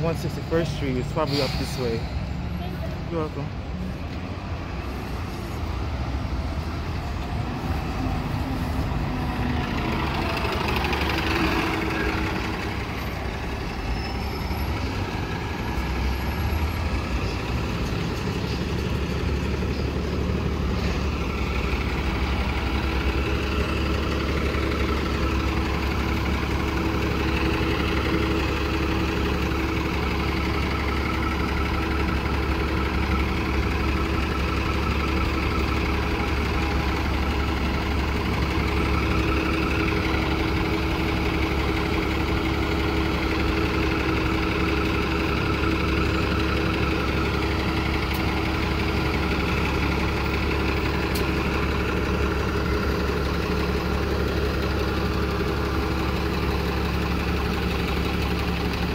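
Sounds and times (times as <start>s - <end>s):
bus driving past: 0.0s - 58.9s
diesel engine idling: 0.0s - 58.9s.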